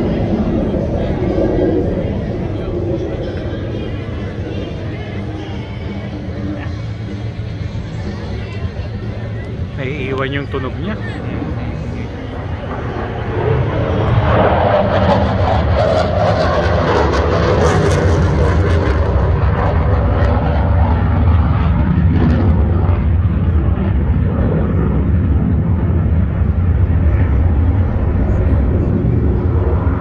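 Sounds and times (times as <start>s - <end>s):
jet engine roar: 0.0s - 30.0s.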